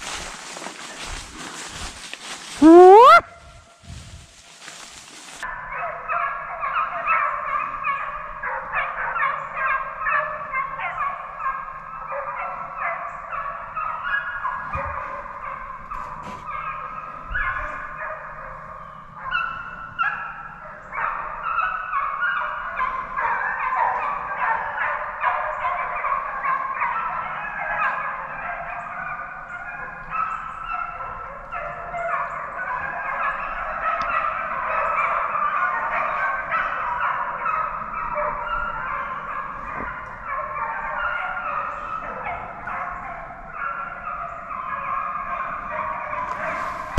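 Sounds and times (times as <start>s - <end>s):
hounds baying in chorus: 0.0s - 3.3s, 5.5s - 46.9s.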